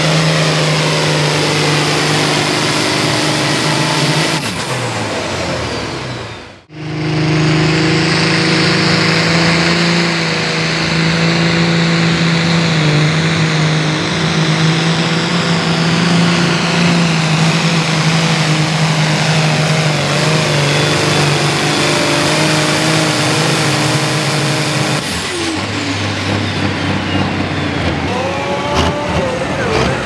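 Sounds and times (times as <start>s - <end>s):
diesel engine running flat out: 0.0s - 30.0s
high whine: 0.0s - 30.0s.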